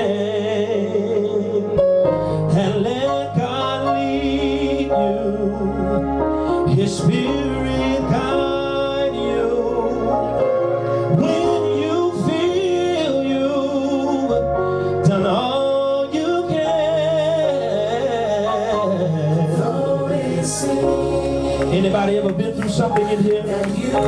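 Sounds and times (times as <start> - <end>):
bass line: 0.0 - 24.0
man singing gospel song: 0.0 - 24.0
sustained instrumental chords: 0.0 - 24.0.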